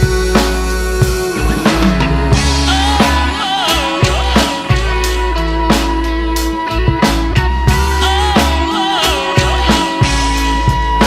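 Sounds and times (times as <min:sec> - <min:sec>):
drum kit beat: 0:00.0 - 0:11.0
low bass: 0:00.0 - 0:11.0
sliding lead guitar line: 0:00.0 - 0:11.0.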